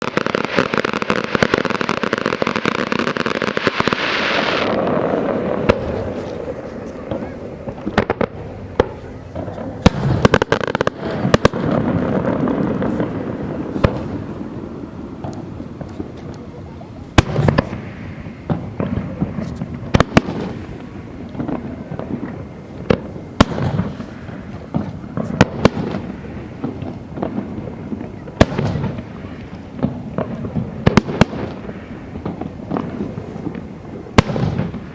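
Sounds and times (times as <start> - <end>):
fireworks crackling: 0.0 - 34.9
steady hiss: 0.0 - 34.9.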